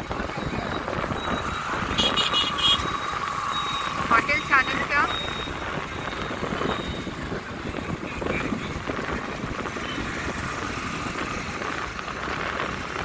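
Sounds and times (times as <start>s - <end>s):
road and traffic noise: 0.0s - 13.0s
wind buffeting microphone: 0.0s - 13.0s.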